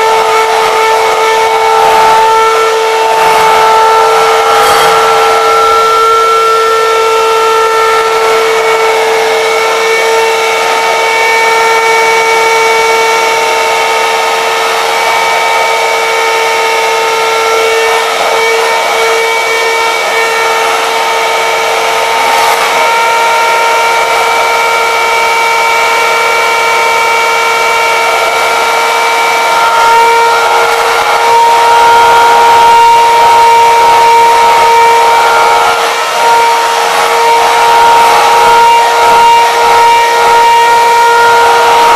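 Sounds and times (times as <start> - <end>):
electric hand mixer whining: 0.0 - 41.9.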